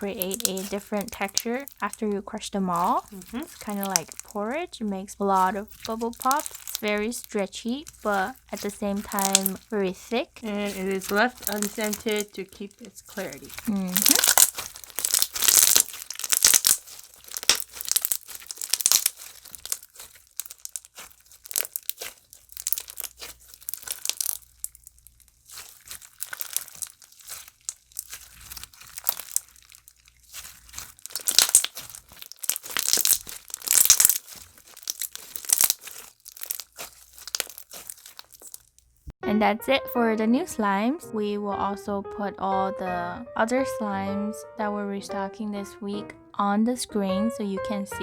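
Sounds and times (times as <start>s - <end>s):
slime squishing and crackling: 0.0s - 39.2s.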